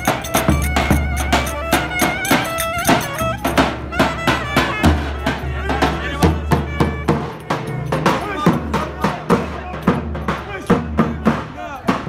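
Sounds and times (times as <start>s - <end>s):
high folk dance melody: 0.0s - 10.7s
driving drum beat: 0.0s - 12.0s.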